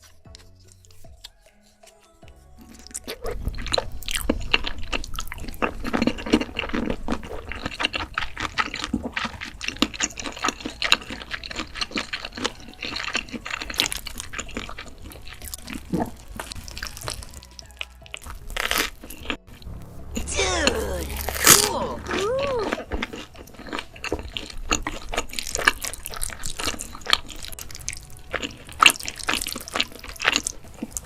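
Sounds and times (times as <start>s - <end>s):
wet chewing and slurping: 0.0s - 31.0s.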